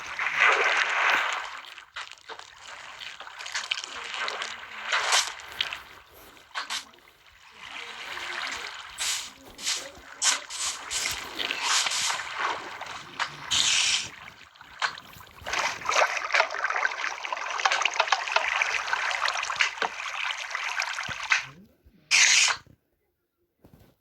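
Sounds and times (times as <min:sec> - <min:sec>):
water splashing and sloshing: 0:00.0 - 0:22.7.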